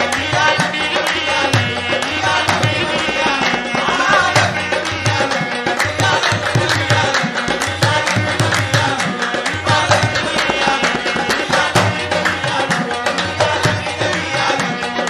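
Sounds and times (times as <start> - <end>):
harmonium chords: 0.0 - 15.0
tabla fast rhythm: 0.0 - 15.0.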